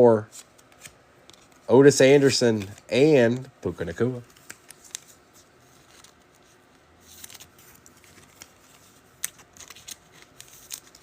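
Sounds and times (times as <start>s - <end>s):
trading cards rustling: 0.3s - 11.0s.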